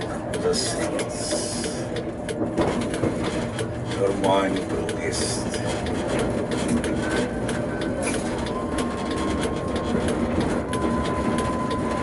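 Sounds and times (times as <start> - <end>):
thin steady whine: 0.0 - 12.0
tram rumbling on track: 0.0 - 12.0.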